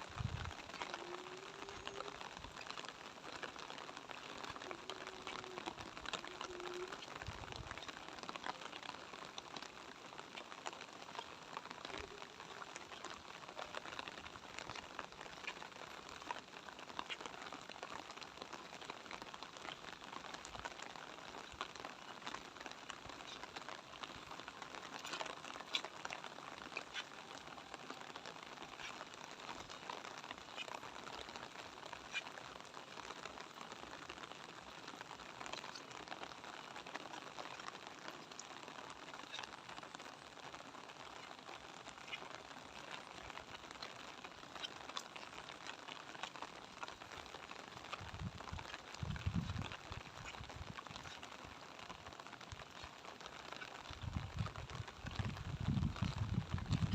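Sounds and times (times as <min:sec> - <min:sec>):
light rain falling: 0:00.0 - 0:56.9.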